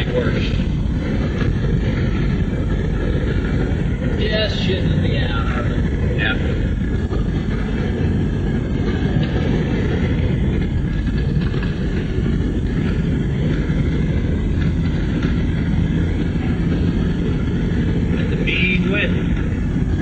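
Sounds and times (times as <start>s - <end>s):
vehicle engine and tyres rumbling: 0.0s - 20.0s.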